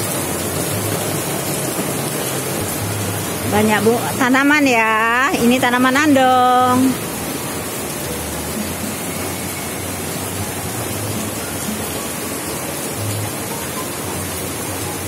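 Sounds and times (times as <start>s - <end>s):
rain falling on paving: 0.0s - 15.0s
waterfall rushing: 0.0s - 15.0s.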